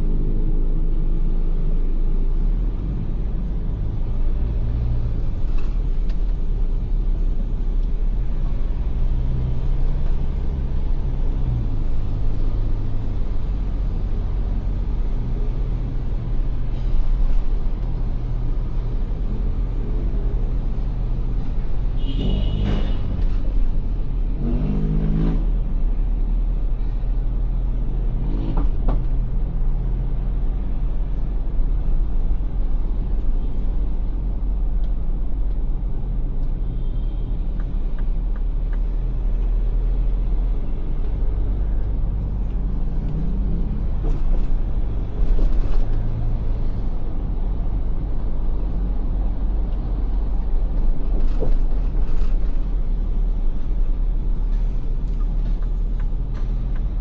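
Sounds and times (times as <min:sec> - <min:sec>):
car driving in traffic: 0:00.0 - 0:57.0.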